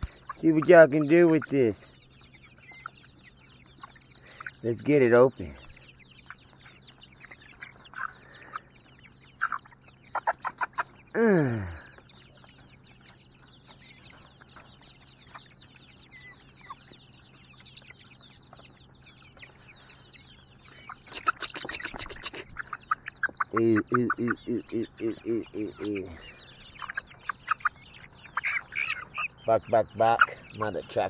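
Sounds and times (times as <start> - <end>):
chickens clucking and squawking: 0.0 - 31.0.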